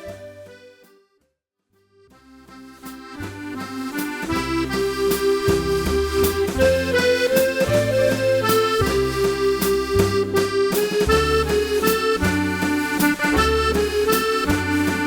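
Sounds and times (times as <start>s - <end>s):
solo accordion waltz: 0.0s - 1.2s, 1.9s - 15.0s.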